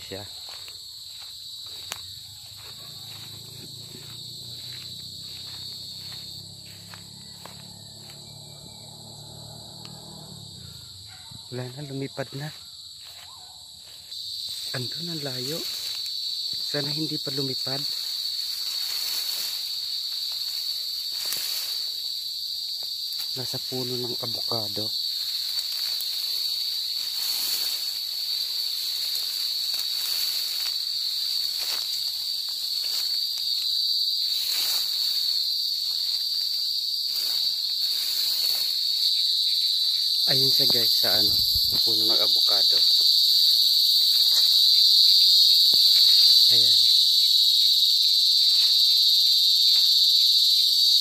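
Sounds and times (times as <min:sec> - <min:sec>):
dry grass rustling: 0:00.0 - 0:08.2, 0:13.0 - 0:50.6
cicada buzzing: 0:00.0 - 0:51.0.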